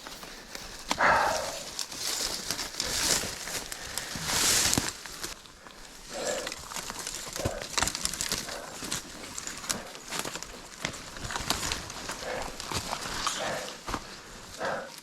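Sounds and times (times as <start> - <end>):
twigs snapping: 0.0 - 14.9
dry grass crackling and rustling: 0.0 - 15.0
footsteps: 0.0 - 15.0.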